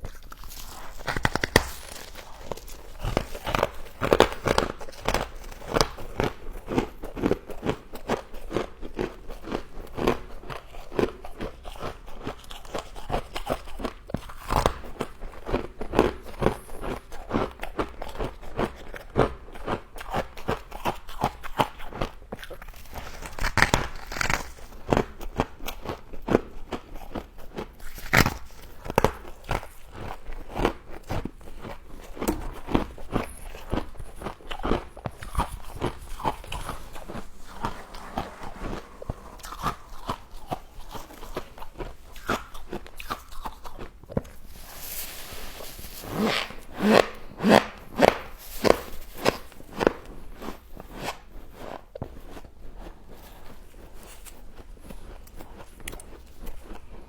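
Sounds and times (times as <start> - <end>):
crunchy frost chewing: 0.0 - 57.0.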